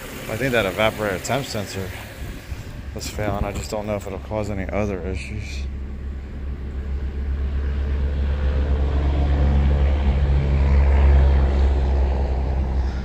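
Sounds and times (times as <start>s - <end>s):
blower fan running: 0.0s - 13.0s
car engine idling: 0.0s - 13.0s.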